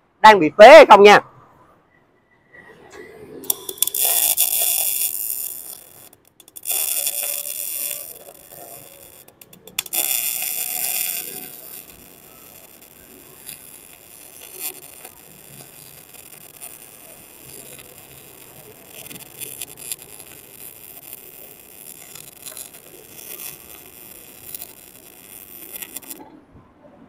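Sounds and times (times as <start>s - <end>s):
welding arc crackling: 3.4s - 26.3s.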